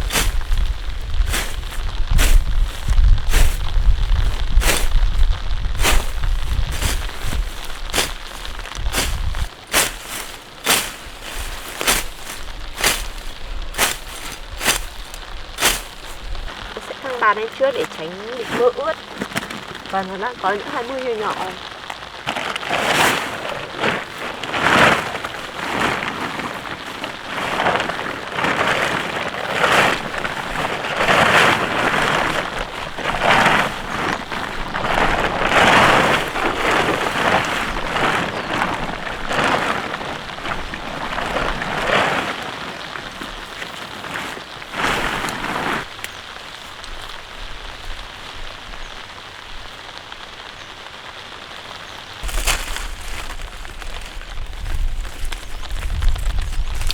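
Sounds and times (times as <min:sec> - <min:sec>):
loud rustling: 0:00.0 - 0:48.1, 0:52.2 - 0:56.9
light rain pattering: 0:00.0 - 0:56.9.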